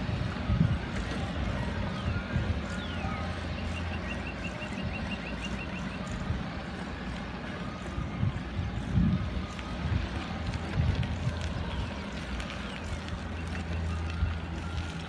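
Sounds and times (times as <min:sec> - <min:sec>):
bicycle road rumble on asphalt: 0:00.0 - 0:15.0
wind buffeting microphone: 0:00.0 - 0:15.0.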